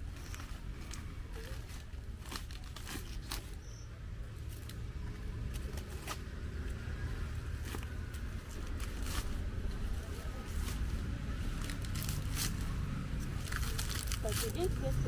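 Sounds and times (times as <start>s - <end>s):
banana leaves rustling: 0.0s - 15.0s.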